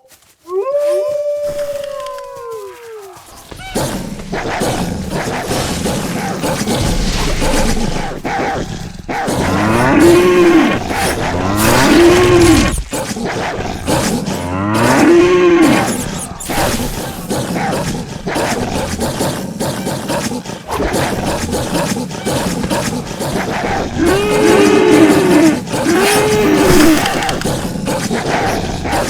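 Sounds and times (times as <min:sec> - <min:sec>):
animal calls: 0:00.0 - 0:29.0.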